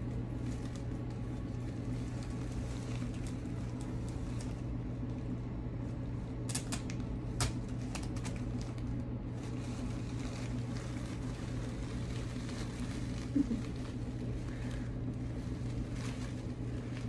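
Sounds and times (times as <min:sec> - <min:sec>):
steady low hum: 0:00.0 - 0:17.0
artificial flowers clicking and rustling: 0:00.1 - 0:05.3, 0:06.4 - 0:17.0.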